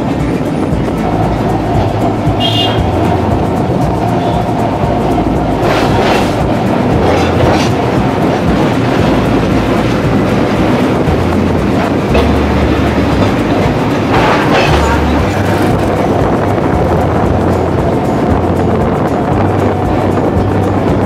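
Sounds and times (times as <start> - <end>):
sharp wheel clacks: 0.0 - 21.0
tram wheels rumbling on rails: 0.0 - 21.0.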